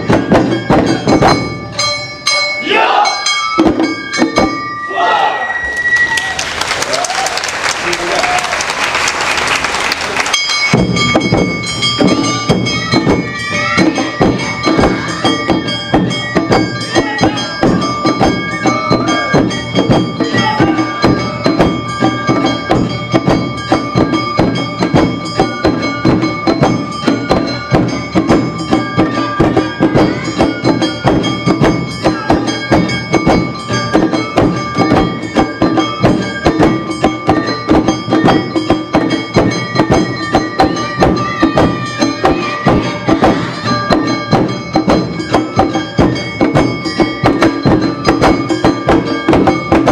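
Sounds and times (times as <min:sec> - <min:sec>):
drums beating: 0:00.0 - 0:49.9
held high notes: 0:00.0 - 0:49.9.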